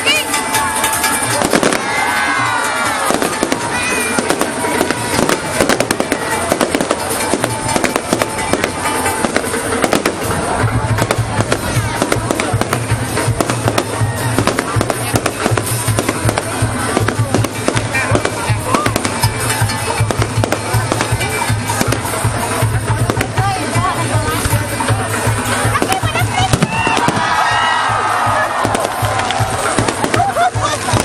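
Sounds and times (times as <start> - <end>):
fireworks bangs and crackling: 0.0 - 31.0
music: 0.0 - 31.0
pulsing bass beat: 0.0 - 31.0.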